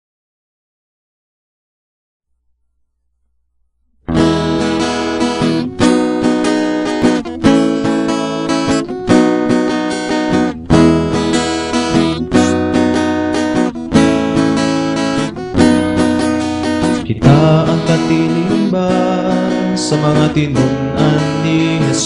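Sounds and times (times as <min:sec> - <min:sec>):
acoustic guitar strumming chords: 0:03.9 - 0:22.0.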